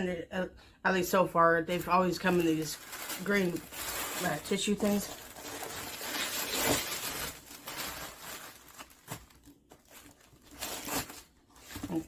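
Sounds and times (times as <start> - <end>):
tissue paper rustling: 1.7 - 12.0.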